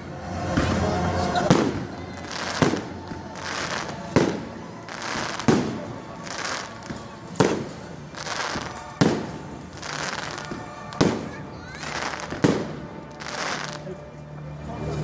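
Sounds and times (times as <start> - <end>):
fireworks hissing and crackling: 0.0 - 14.1.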